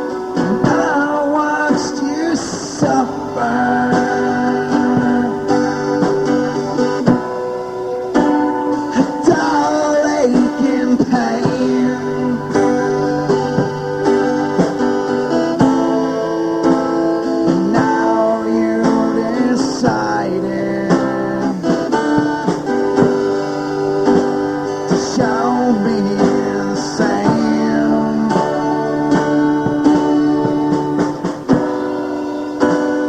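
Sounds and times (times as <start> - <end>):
lead guitar bending notes: 0.0 - 33.0
sustained guitar chords: 0.0 - 33.0.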